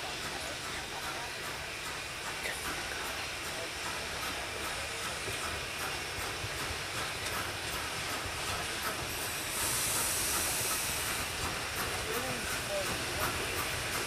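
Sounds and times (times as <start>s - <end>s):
steam hissing: 0.0s - 14.0s
train rolling: 0.0s - 14.0s.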